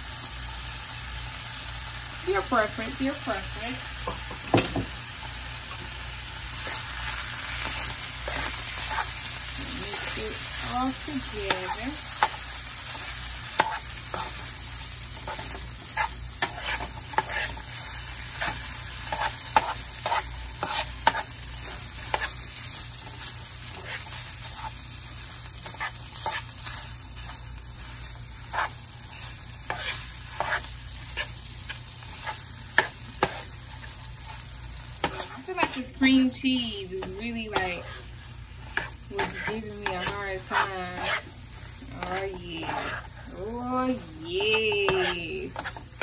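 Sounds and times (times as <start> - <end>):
meat sizzling in a frying pan: 0.0 - 46.0
metal spoon scraping a pan: 6.6 - 24.8, 25.5 - 46.0.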